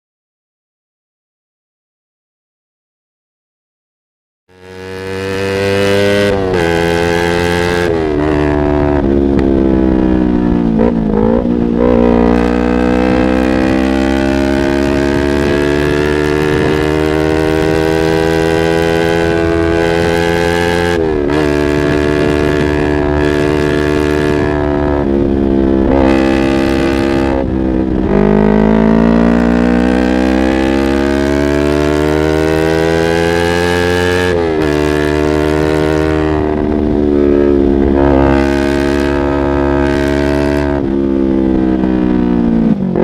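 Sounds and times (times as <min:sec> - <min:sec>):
motorcycle engine revving: 0:04.5 - 0:43.0.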